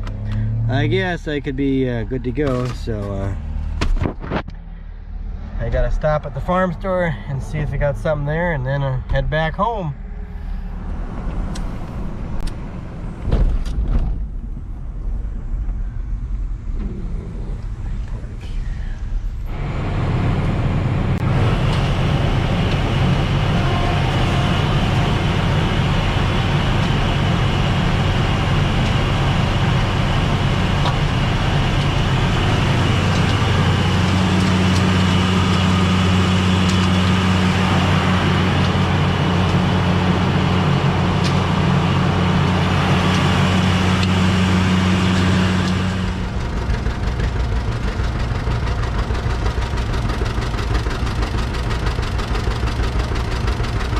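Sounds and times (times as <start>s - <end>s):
road noise: 0.0s - 53.9s
vehicle engine hum: 0.0s - 53.9s.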